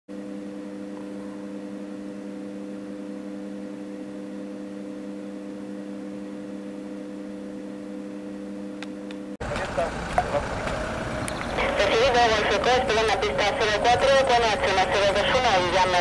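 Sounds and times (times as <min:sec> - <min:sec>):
electrical hum: 0:00.1 - 0:16.0.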